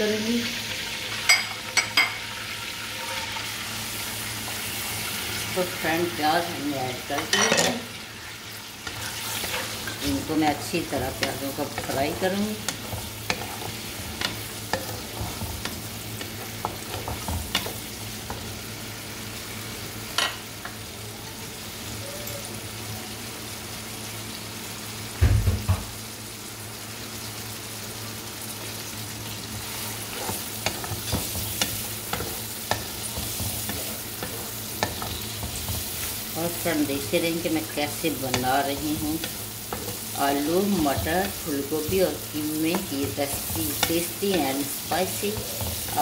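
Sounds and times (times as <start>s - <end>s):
onions sizzling in hot oil: 0.0s - 46.0s.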